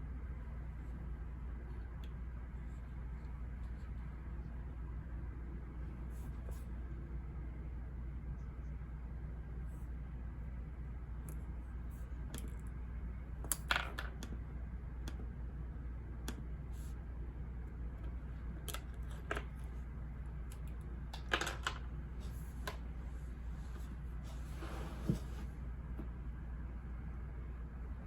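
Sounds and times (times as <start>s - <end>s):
low white-noise hum: 0.0s - 28.0s.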